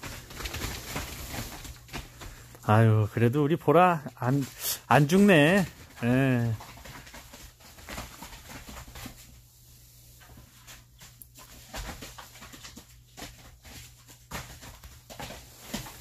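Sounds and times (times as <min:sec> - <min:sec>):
dogs scuffling on plastic tarp: 0:00.0 - 0:09.5, 0:10.2 - 0:16.0.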